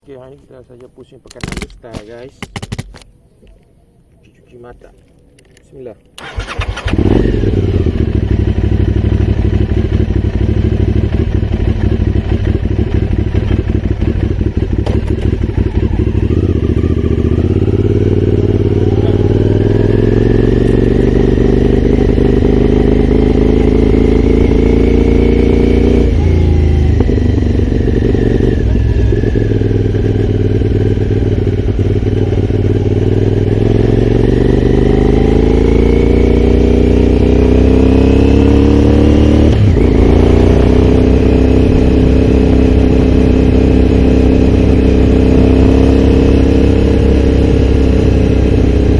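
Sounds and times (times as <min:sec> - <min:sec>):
motorcycle engine revving: 0:06.2 - 0:48.9.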